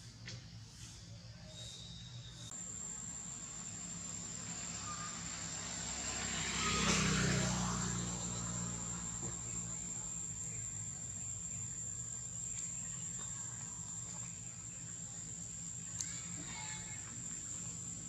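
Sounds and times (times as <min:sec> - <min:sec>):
road noise: 0:02.5 - 0:18.0
vehicle engine hum: 0:02.5 - 0:18.0.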